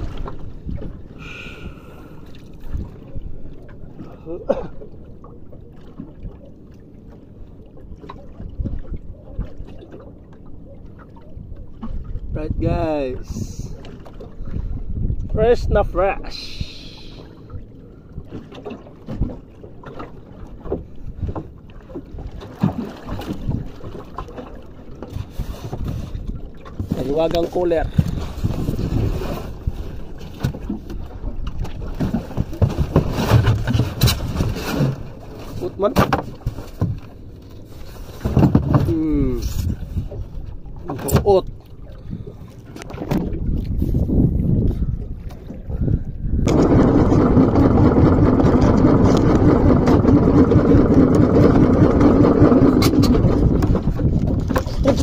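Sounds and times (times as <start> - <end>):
wind and sea rumble: 0.0 - 55.0.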